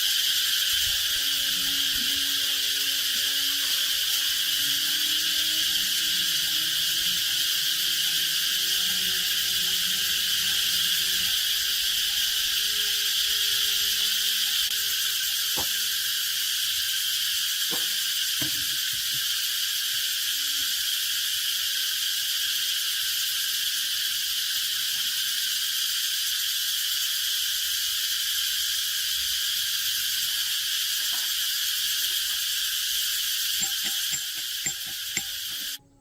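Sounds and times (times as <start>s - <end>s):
insects chorus: 0.0s - 36.0s.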